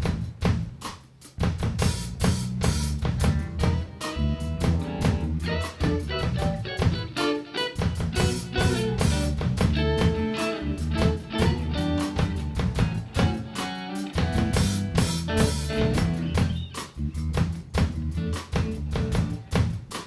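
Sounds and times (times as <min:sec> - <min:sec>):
band music with guitar and drums: 0:01.7 - 0:20.0.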